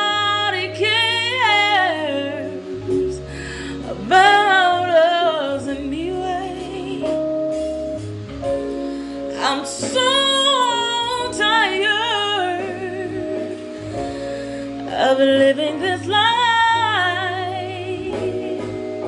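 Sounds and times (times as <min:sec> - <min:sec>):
woman singing: 0:00.0 - 0:07.5, 0:09.3 - 0:14.0, 0:14.8 - 0:19.0
instrumental backing track: 0:00.0 - 0:19.0.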